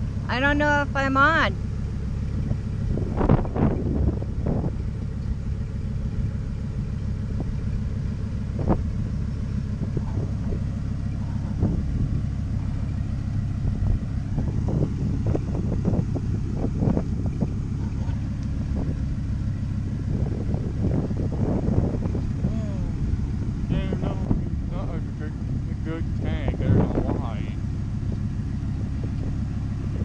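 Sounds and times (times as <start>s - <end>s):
car engine idling: 0.0s - 30.0s
engine knocks: 0.0s - 30.0s.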